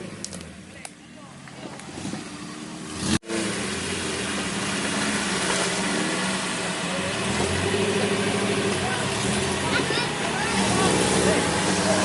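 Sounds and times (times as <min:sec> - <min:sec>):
jeep engine droning: 0:00.0 - 0:12.0.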